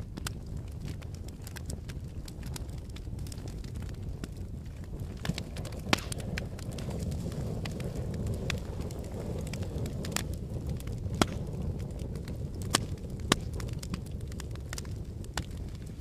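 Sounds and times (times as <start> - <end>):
fire crackling: 0.0 - 16.0
fire popping: 0.0 - 16.0.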